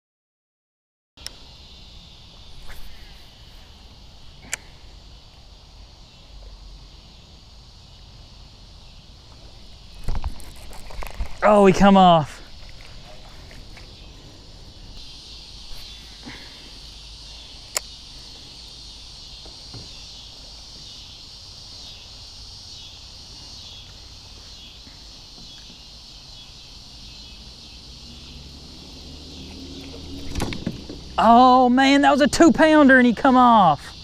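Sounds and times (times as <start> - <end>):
insects chorus: 1.2 - 34.0.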